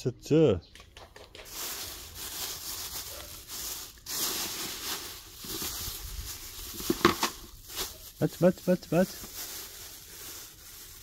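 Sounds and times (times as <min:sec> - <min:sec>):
rustling and rubbing: 0:01.2 - 0:08.4, 0:09.0 - 0:11.0.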